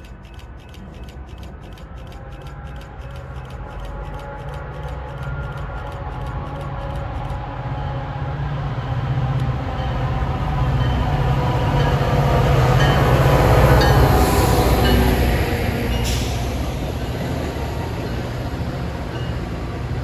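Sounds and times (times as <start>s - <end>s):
diesel locomotive engine hum: 0.0s - 20.0s
rail rumble: 0.0s - 20.0s.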